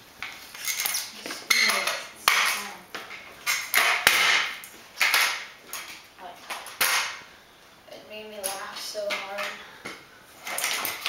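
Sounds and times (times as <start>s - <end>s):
scooter wheels rolling on concrete: 0.0s - 7.3s, 8.0s - 11.0s.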